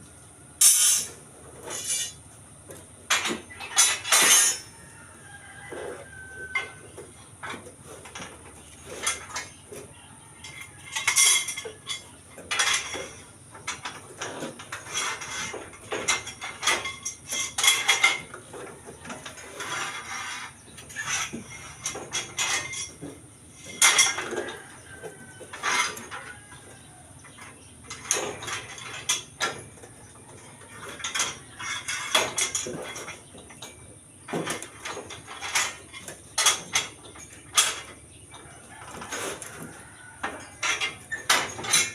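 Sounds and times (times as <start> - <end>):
steel bars clanking together: 0.6 - 41.9.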